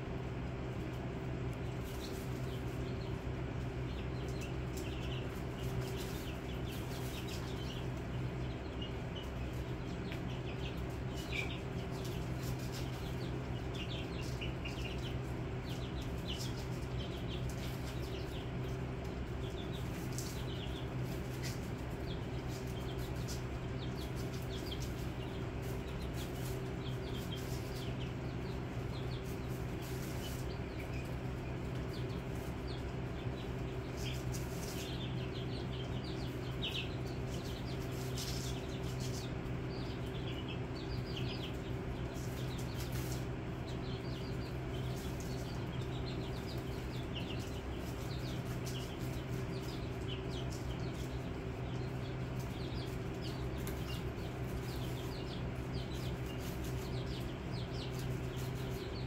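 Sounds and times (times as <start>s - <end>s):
chicks peeping: 0.0s - 59.0s
continuous low hum: 0.0s - 59.0s.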